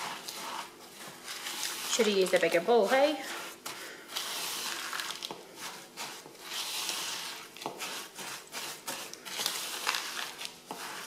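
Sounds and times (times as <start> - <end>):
spatula scraping a plastic bowl: 0.0 - 11.0.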